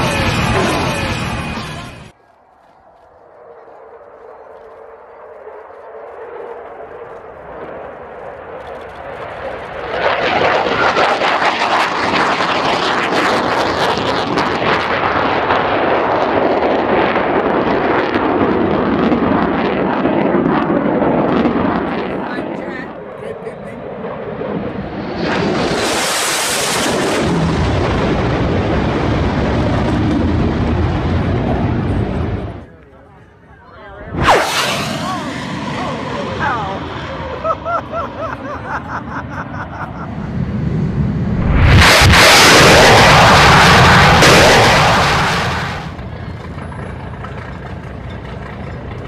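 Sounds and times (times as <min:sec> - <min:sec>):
jet fighter passing low: 0:00.0 - 0:49.0.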